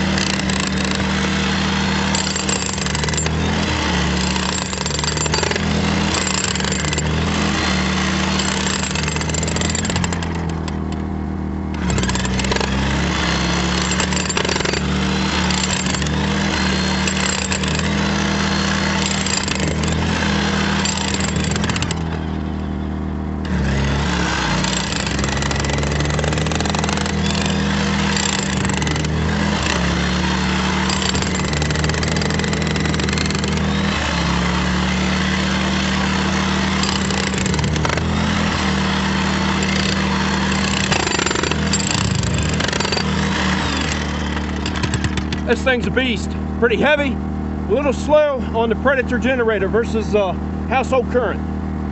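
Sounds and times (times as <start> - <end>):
power tool cutting concrete: 0.0 - 10.8, 11.8 - 22.5, 23.4 - 47.1
generator engine running: 0.0 - 51.9.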